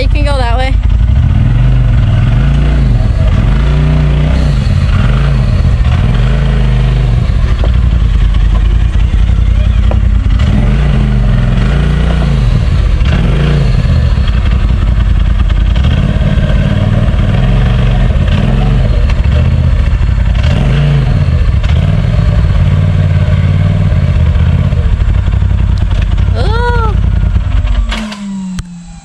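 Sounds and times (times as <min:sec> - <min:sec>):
utv engine revving: 0:00.0 - 0:29.0.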